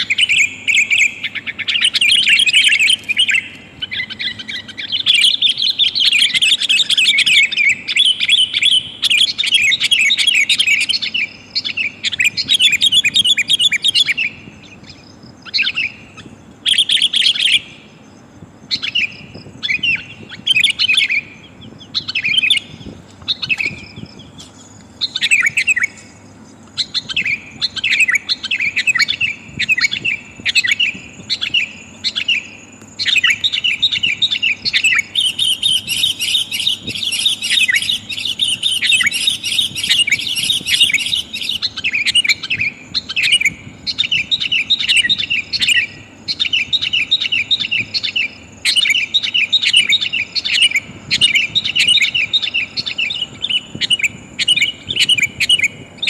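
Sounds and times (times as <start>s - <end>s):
bird chattering calls: 0.0s - 56.0s.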